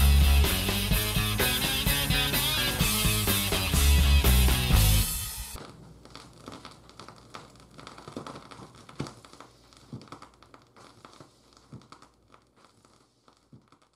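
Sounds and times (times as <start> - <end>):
vinyl record crackles and pops: 0.0 - 13.9.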